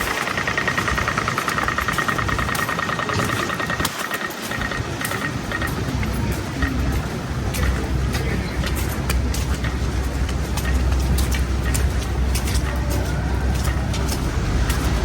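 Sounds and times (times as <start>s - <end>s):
city traffic noise: 0.0s - 15.0s
heavy vehicle motor rumbling: 0.0s - 15.0s.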